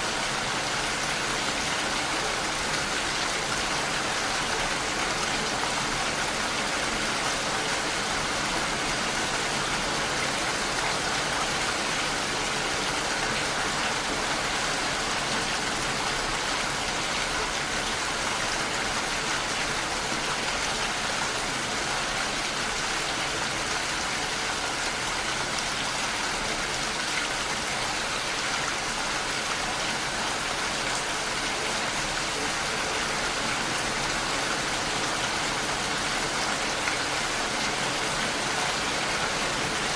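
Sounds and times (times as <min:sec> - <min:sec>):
rain against a window: 0:00.0 - 0:39.9.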